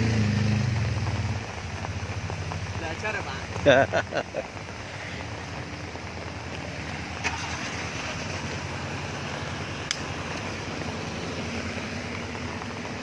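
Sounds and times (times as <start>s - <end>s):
floodwater rushing: 0.0s - 13.0s
vehicle engine running: 0.0s - 13.0s.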